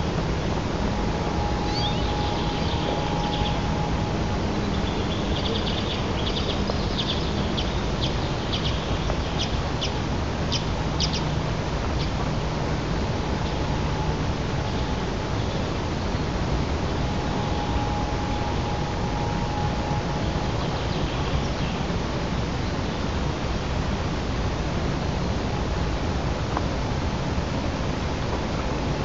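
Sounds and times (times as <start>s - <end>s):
background hiss: 0.0s - 29.0s.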